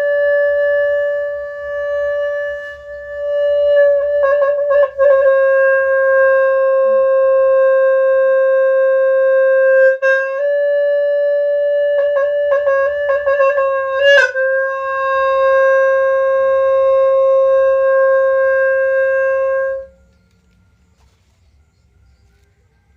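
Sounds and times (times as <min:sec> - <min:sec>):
wind horn long note: 0:00.0 - 0:20.7.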